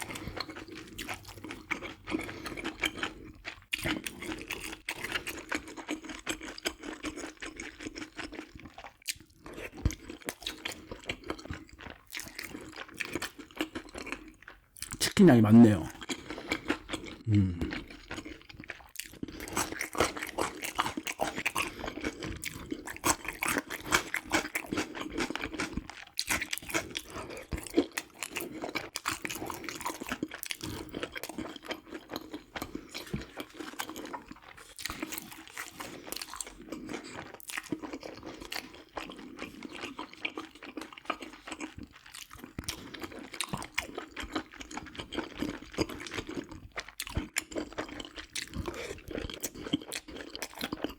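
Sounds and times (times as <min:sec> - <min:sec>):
crunchy chewing: 0:00.0 - 0:15.0, 0:15.9 - 0:50.9.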